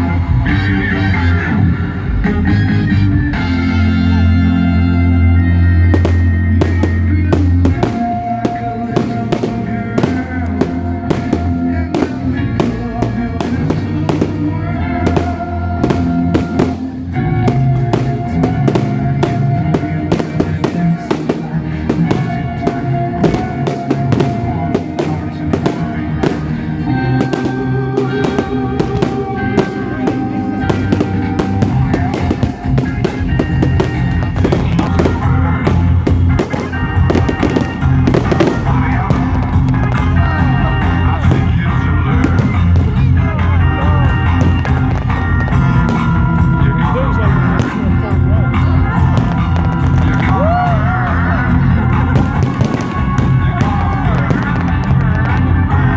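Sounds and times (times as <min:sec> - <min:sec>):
firework bangs and crackles: 0:03.2 - 0:55.9
loud music with low beat: 0:05.9 - 0:55.8.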